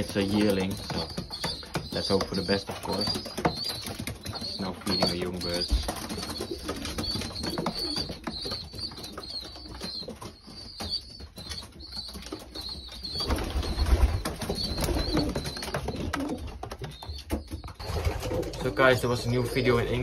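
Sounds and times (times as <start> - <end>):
young pigeons squeaking: 0.0 - 20.0.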